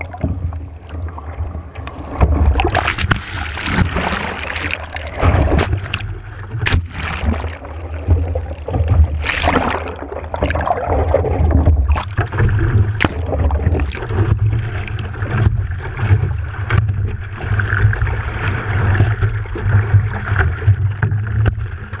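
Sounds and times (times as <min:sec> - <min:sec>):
knocks and clicks underwater: 0:00.0 - 0:22.0
underwater churning surf rumble: 0:00.0 - 0:22.0.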